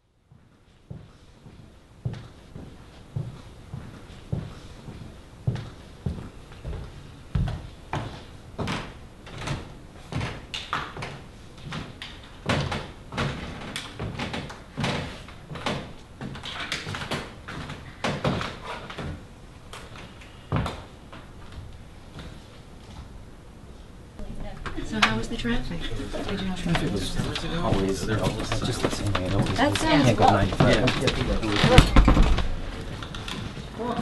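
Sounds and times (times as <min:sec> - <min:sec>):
footsteps on hollow wooden stage: 0:00.2 - 0:23.2, 0:24.2 - 0:34.0.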